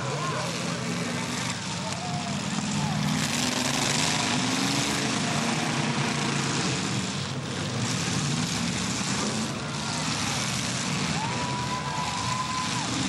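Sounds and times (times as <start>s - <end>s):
car engines droning and revving: 0.0s - 13.0s.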